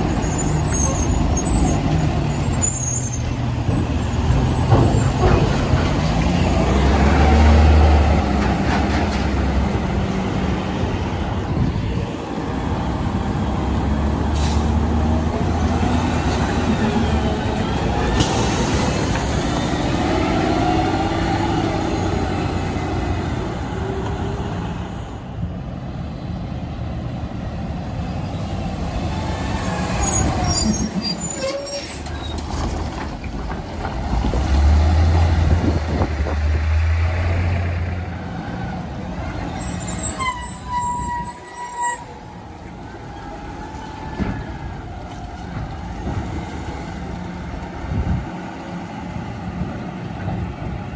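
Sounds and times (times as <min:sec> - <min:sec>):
garbage truck engines rumbling: 0:00.0 - 0:50.9.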